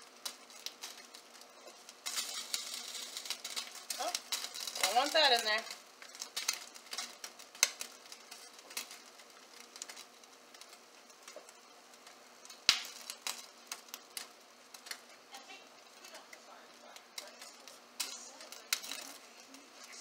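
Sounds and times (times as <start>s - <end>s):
foil pan clicks and crinkles: 0.0s - 15.0s, 17.2s - 20.0s.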